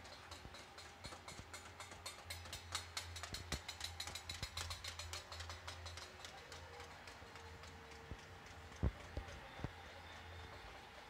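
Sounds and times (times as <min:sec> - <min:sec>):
distant crowd clapping and banging metal: 0:00.0 - 0:11.0.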